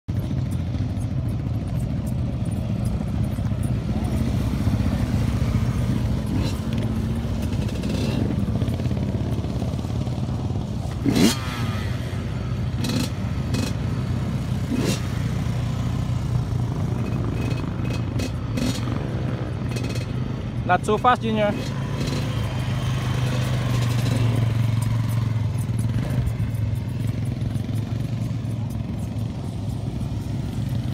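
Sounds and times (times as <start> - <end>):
quad bike engines running: 0.1 - 30.9.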